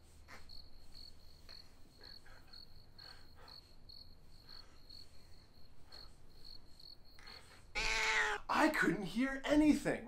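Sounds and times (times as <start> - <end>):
faint cricket chirping: 0.0 - 10.0.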